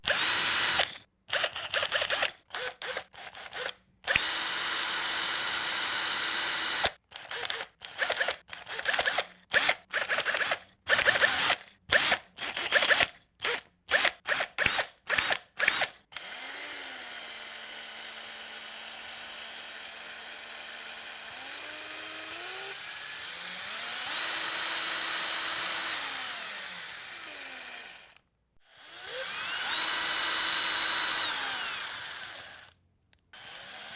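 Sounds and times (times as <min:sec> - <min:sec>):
electric drill motor whirring: 0:00.0 - 0:33.9.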